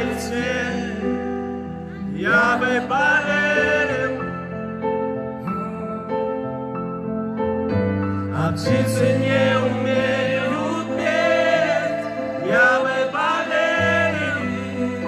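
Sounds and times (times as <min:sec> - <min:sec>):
man singing into a microphone: 0:00.0 - 0:04.6, 0:05.4 - 0:06.5, 0:08.3 - 0:15.0
keyboard chords: 0:00.0 - 0:15.0.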